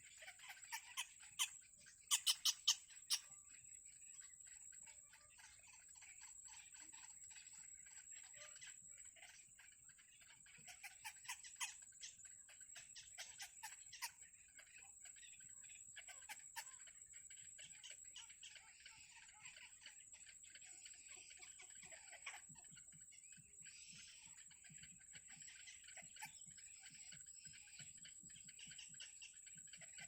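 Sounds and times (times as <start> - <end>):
baby birds cheeping: 0.0 - 30.0.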